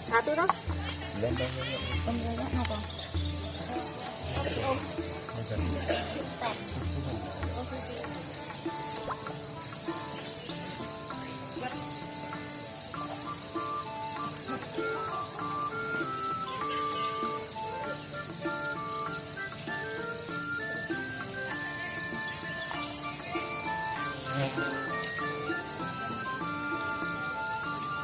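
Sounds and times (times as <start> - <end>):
insects trilling: 0.0 - 28.0
music playing: 0.0 - 28.0.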